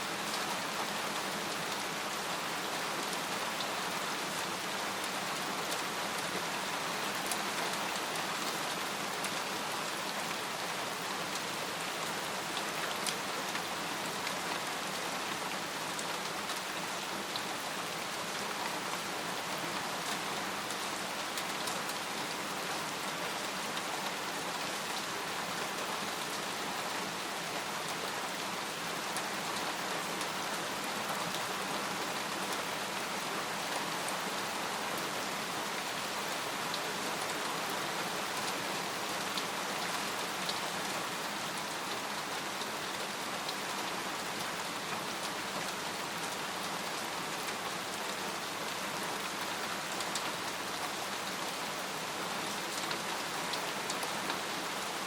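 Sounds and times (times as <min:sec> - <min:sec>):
rain falling on a tent: 0:00.0 - 0:55.0.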